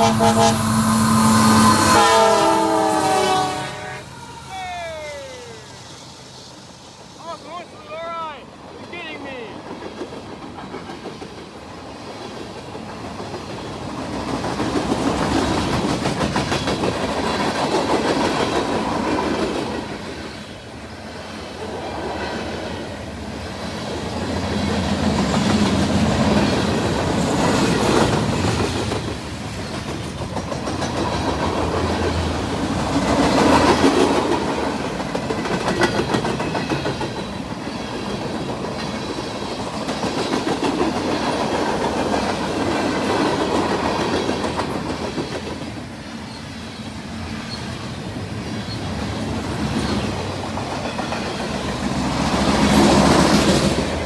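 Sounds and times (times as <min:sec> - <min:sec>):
train wheels clicking over rails: 0:09.6 - 0:54.0.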